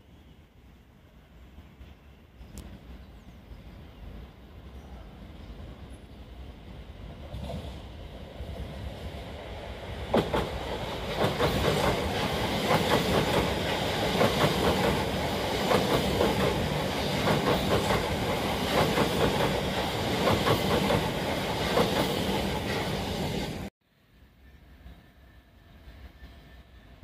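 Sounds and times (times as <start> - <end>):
passing train rumble: 0.0 - 27.0.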